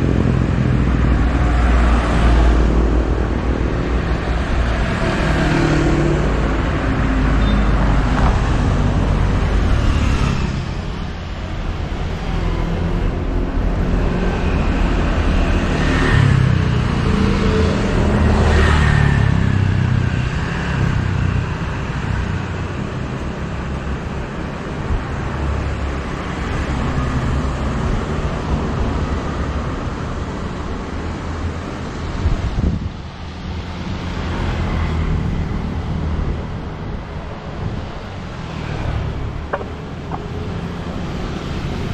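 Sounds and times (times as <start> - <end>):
vehicle engines running: 0.0 - 41.9
vehicles passing close by: 0.0 - 41.9.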